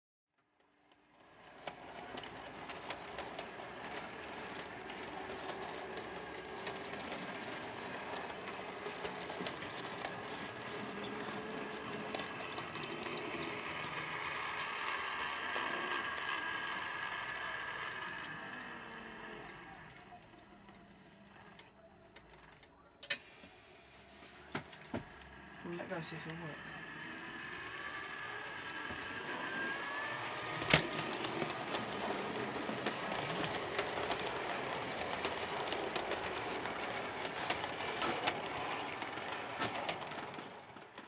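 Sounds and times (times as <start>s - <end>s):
wheels clicking on rails: 0.8s - 23.3s, 24.1s - 41.0s
model train motor whine: 1.4s - 22.6s, 23.4s - 41.0s.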